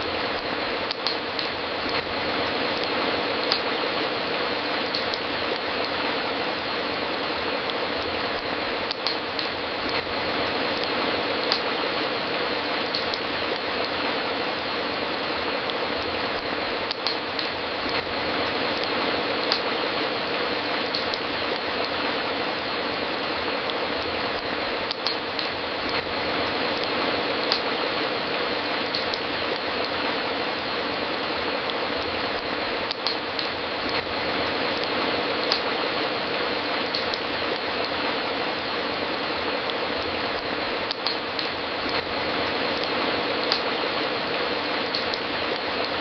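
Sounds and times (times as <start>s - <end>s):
fireplace fire crackling: 0.0s - 46.0s.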